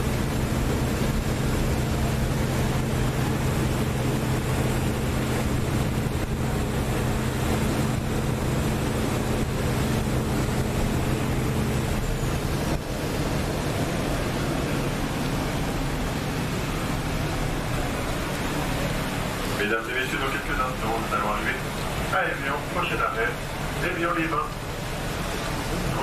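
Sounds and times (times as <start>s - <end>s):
boat engine hum: 0.0s - 26.0s
water noise: 0.0s - 26.0s
wind: 0.0s - 26.0s.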